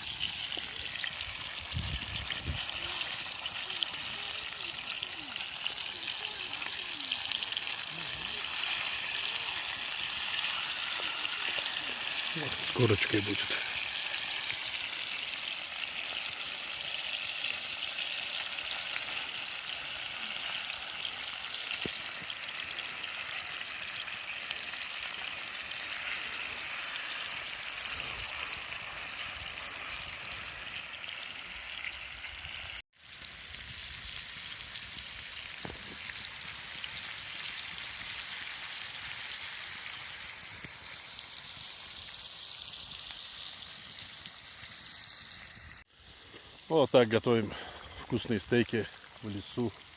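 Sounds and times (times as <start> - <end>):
steaks sizzling over campfire: 0.0 - 49.9.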